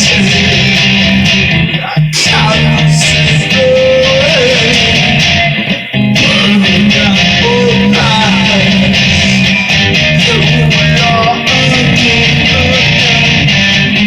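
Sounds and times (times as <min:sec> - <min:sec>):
guitar melody notes: 0:00.0 - 0:14.0
guitar strumming chords: 0:00.0 - 0:14.0.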